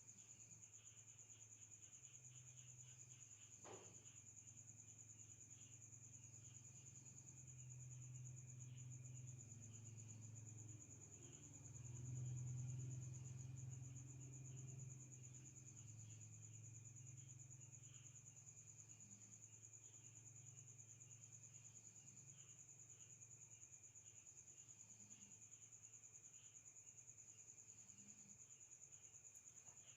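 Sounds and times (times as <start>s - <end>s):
insect chirping: 0.0s - 29.9s.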